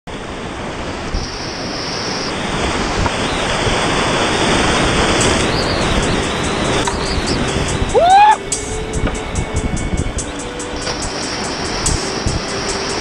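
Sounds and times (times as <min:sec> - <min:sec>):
rushing whitewater rapids: 0:00.1 - 0:13.0.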